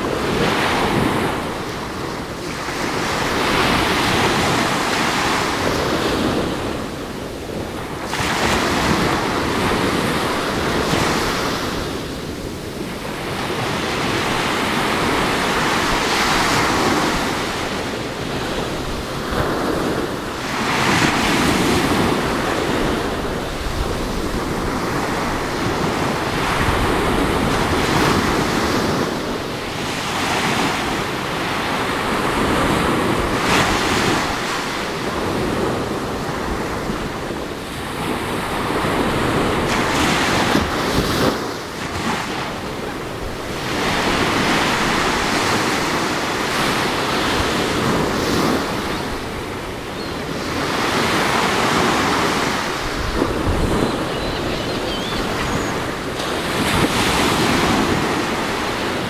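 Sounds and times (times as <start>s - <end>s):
small ocean waves breaking: 0.0s - 59.0s
wind buffeting microphone: 0.0s - 59.0s.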